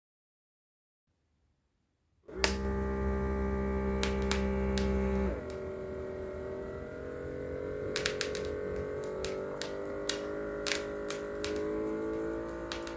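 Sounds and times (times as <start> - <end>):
small electric pump humming: 2.3 - 12.9.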